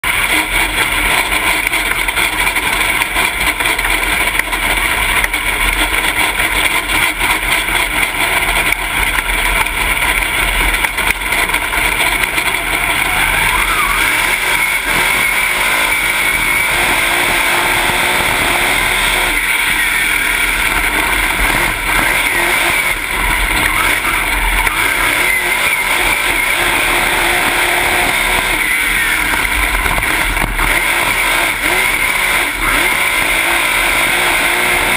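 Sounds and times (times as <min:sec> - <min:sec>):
race car engine running hard: 0:00.0 - 0:34.9.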